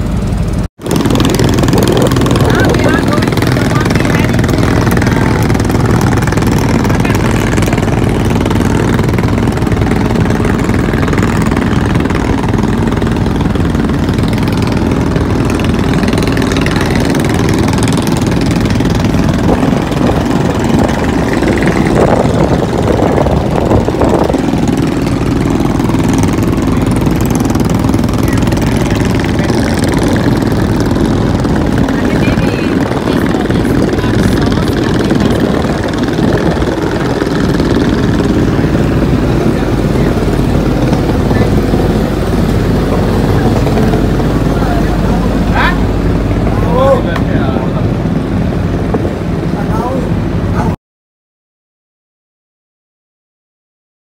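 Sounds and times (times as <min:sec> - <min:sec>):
motorboat engine running: 0:00.0 - 0:50.8.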